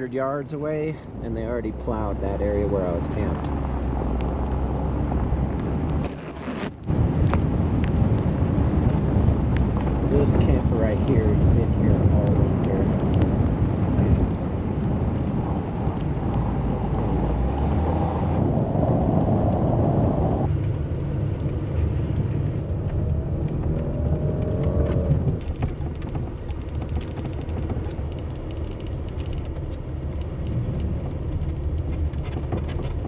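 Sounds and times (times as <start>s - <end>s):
tyres and engine rumbling: 0.0s - 33.0s.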